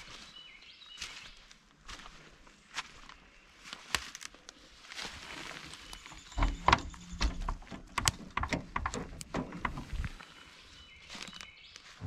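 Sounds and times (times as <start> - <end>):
footsteps crunching through undergrowth: 0.0 - 7.8, 9.8 - 12.0.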